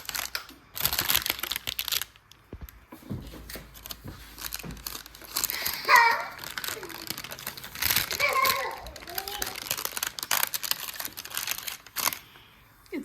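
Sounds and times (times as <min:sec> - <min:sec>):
wrapping crinkling: 0:00.0 - 0:12.9.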